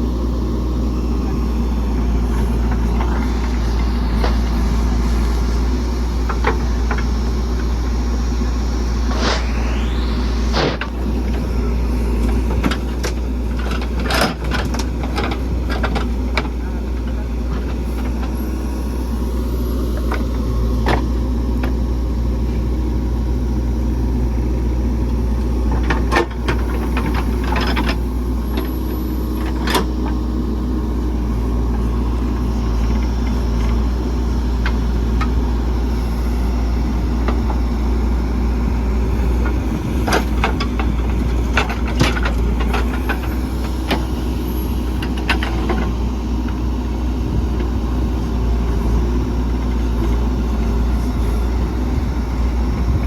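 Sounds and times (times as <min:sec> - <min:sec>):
diesel engines running: 0:00.0 - 0:53.0.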